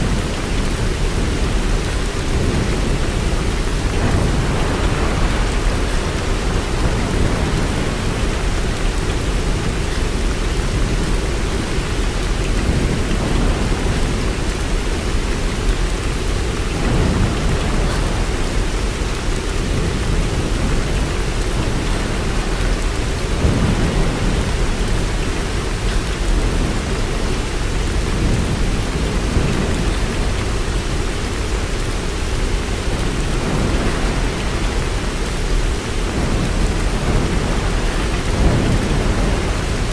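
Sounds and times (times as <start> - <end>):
low rolling thunder: 0.0 - 31.8, 32.5 - 39.9
heavy rain: 0.0 - 39.9.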